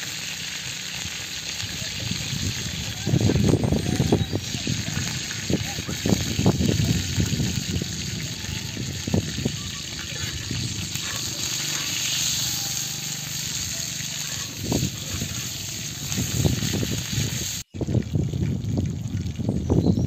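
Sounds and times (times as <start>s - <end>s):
running water rushing: 0.0s - 17.9s.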